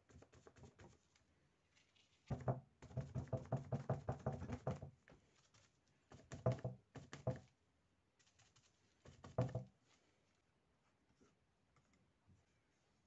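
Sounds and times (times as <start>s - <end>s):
sponge dabbing paint on paper: 0.0s - 11.4s.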